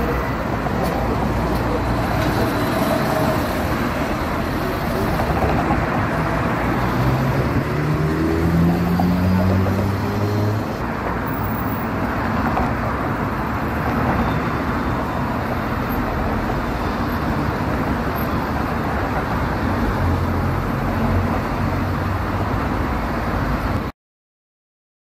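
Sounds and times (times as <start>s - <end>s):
busy road traffic: 0.0s - 24.0s.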